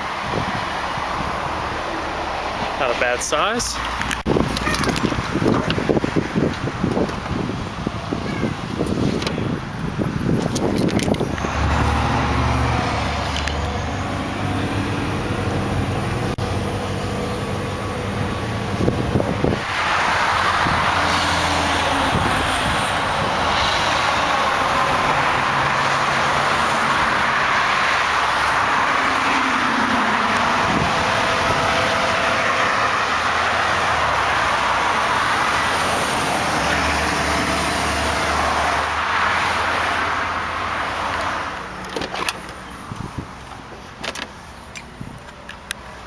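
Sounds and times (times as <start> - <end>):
highway traffic rushing: 0.0 - 46.0.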